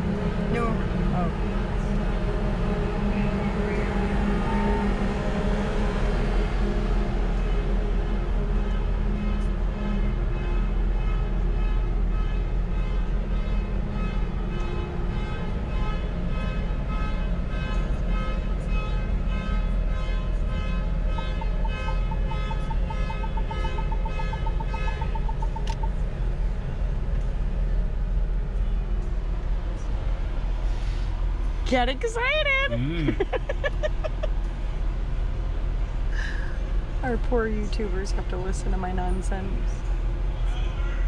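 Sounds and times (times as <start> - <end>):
ferry machinery rumble and hum: 0.0 - 41.0.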